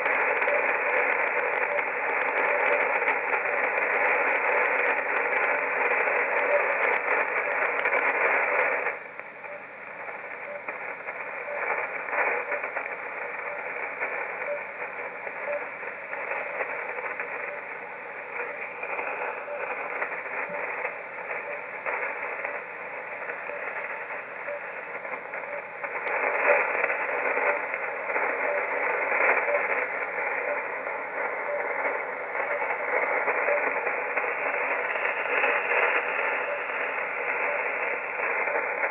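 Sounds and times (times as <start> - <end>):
shortwave radio hiss and static: 0.0 - 38.9.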